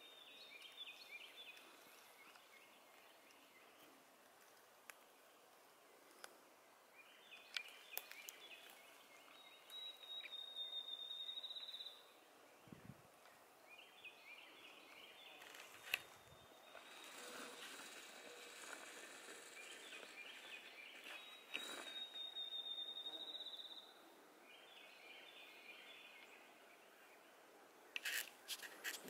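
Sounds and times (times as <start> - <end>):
faint songbirds singing: 0.0 - 29.0.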